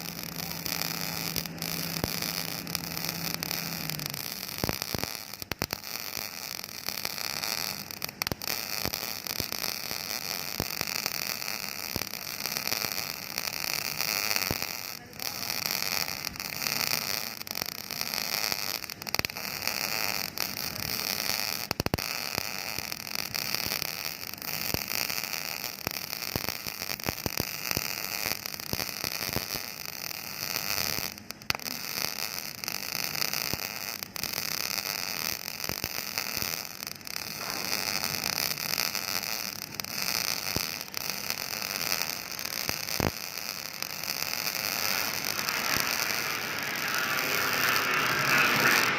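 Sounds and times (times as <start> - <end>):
welding arc crackling sizzle: 0.0 - 48.9.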